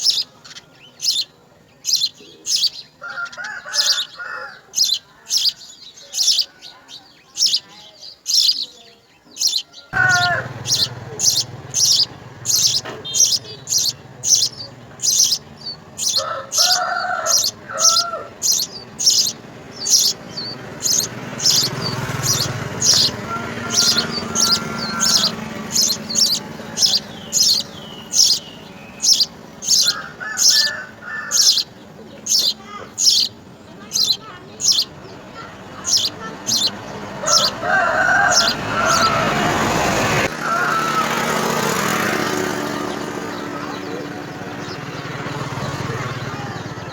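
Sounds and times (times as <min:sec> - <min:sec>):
lower bird calls: 0:00.0 - 0:46.9
sparrows chirping: 0:00.0 - 0:46.9.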